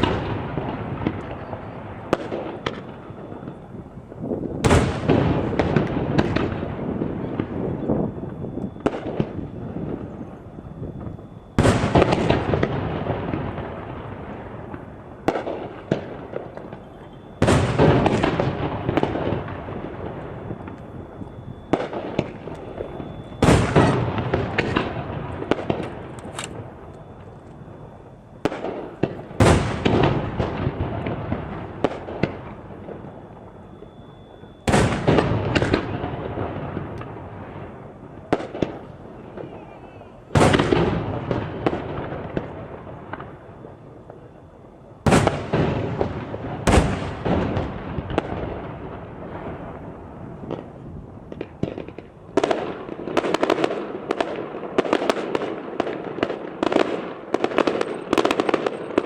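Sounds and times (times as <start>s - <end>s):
firework booms with rumbling echo: 0.0s - 59.0s
rapid firework bangs and crackles: 0.0s - 59.0s.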